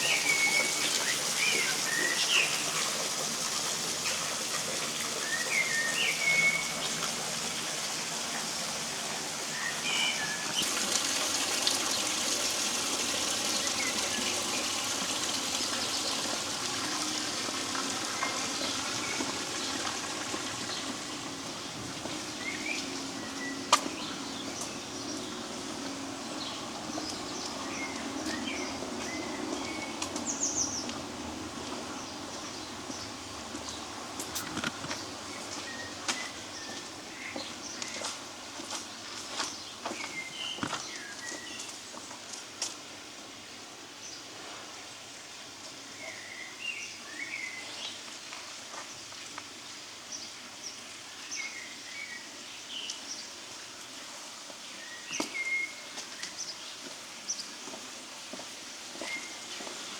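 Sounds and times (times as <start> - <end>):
songbirds chirping: 0.0 - 3.0, 4.0 - 10.7, 11.7 - 42.4, 45.7 - 59.9.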